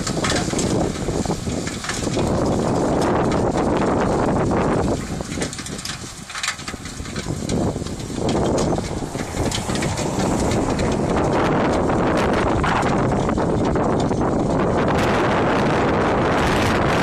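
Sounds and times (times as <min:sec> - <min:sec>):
distant tractor working: 0:00.0 - 0:17.0
wind buffeting microphone: 0:00.0 - 0:17.0.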